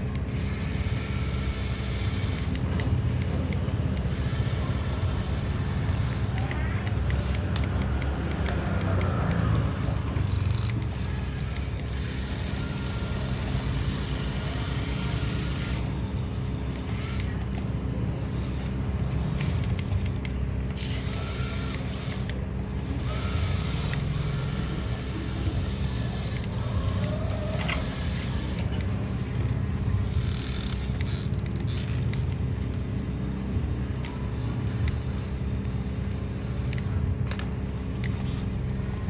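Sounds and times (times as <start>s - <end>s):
excavator engine rumbling: 0.0s - 39.0s.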